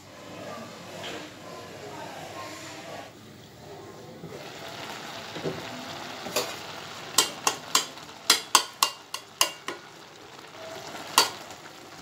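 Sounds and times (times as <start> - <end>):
soft simmering hiss: 0.0 - 12.0.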